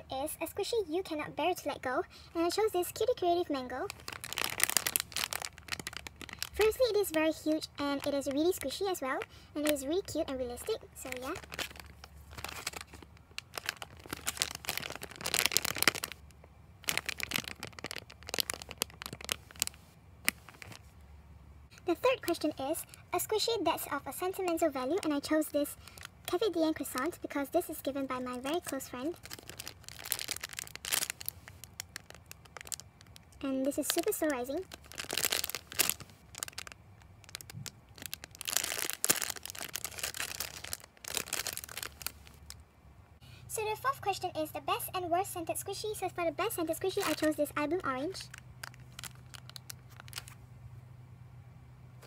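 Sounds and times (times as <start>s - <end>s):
plastic bag crinkling: 2.3s - 21.0s, 21.8s - 42.6s, 46.4s - 50.4s
foam toy squishing: 2.4s - 20.9s, 21.7s - 42.6s, 46.6s - 50.4s.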